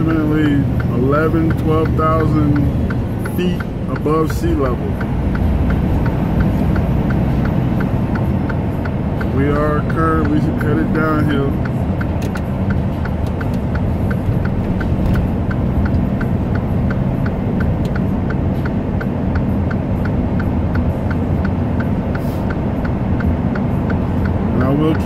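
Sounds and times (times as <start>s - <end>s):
hazard light flasher ticking: 0.0s - 25.0s
truck engine and road rumble: 0.0s - 25.0s.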